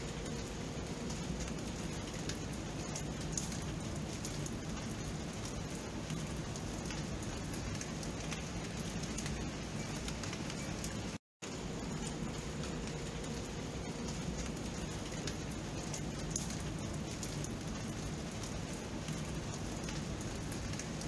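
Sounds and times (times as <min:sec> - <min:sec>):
steady rain pattering: 0:00.0 - 0:21.0.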